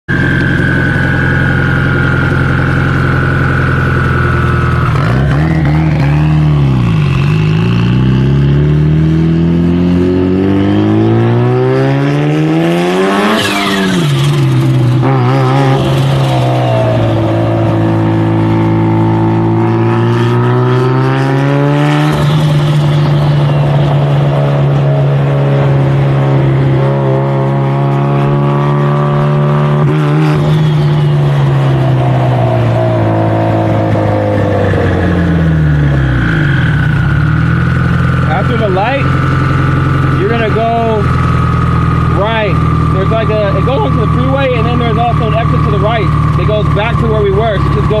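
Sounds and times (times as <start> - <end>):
car engine accelerating: 0.1 - 48.0.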